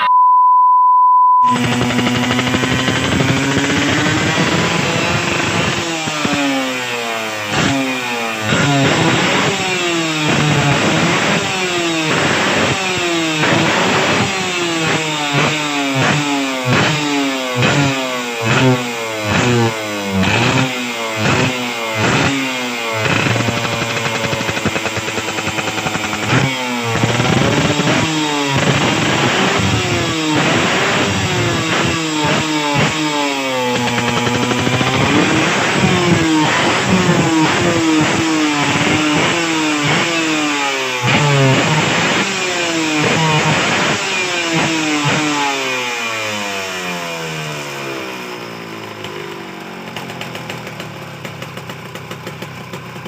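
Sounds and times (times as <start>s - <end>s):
two-stroke engine revving: 1.4s - 53.0s.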